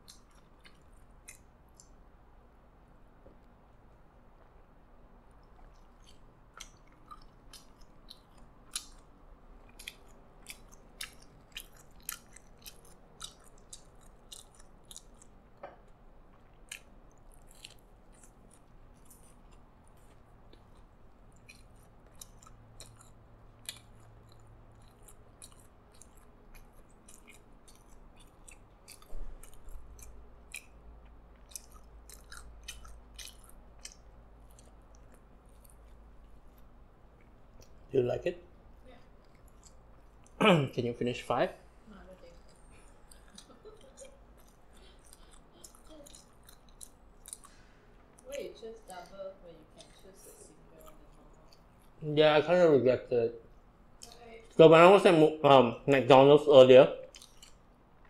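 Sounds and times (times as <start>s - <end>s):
chewing with mouth clicks: 0.0s - 2.1s, 5.2s - 37.9s, 39.0s - 40.4s, 42.1s - 52.0s, 54.0s - 54.6s, 57.0s - 58.0s.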